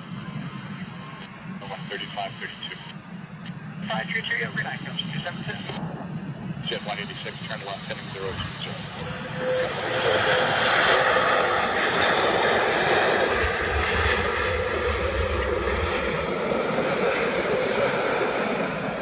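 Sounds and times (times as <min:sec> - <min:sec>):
deep rumble: 0:00.0 - 0:19.0
jet engines in reverse thrust: 0:00.0 - 0:19.0.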